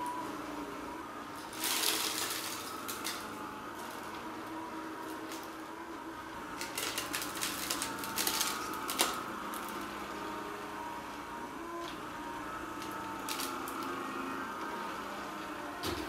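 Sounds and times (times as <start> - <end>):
cordless sweeper motor whirring: 0.0 - 16.0.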